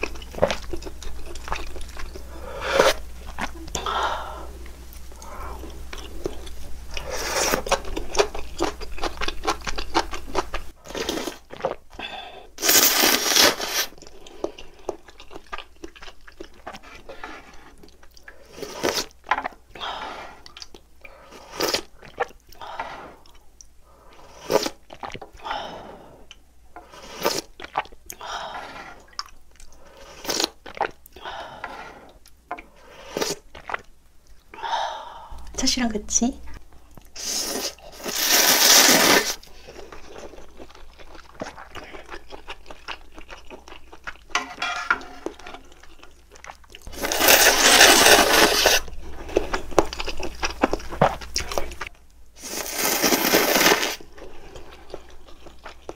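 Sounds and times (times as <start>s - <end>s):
noodles slurped and chewed: 0.0s - 12.0s, 12.6s - 34.6s, 36.9s - 55.9s.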